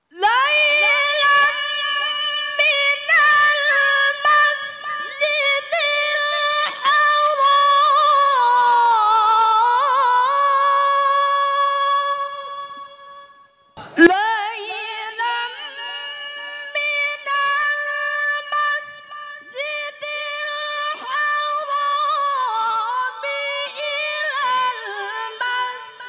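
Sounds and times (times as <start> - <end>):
woman reciting melodically: 0.0 - 26.0.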